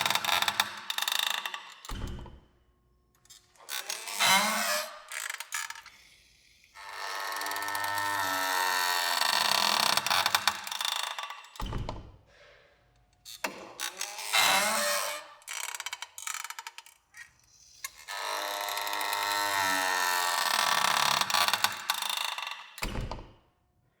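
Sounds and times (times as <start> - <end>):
door hinges creaking: 0.0 - 2.4, 3.6 - 5.9, 6.8 - 12.2, 13.3 - 23.4.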